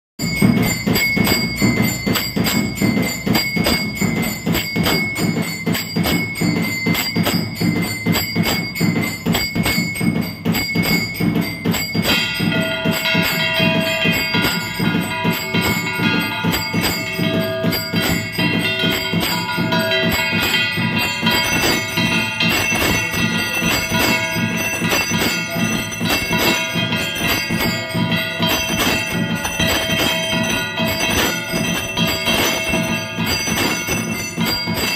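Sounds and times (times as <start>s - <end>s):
sustained bell ringing: 0.2s - 34.9s
temple bells clanging rapidly: 0.2s - 34.9s.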